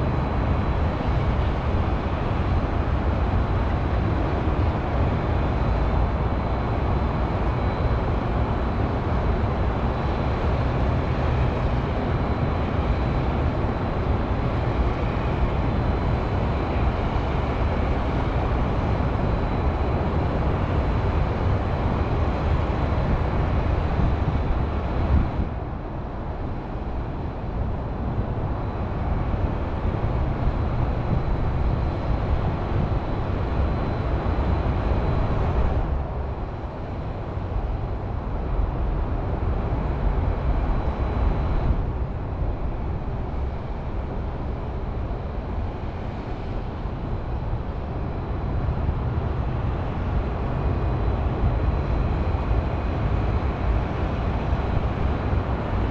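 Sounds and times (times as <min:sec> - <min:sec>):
highway traffic hum: 0:00.0 - 0:55.9.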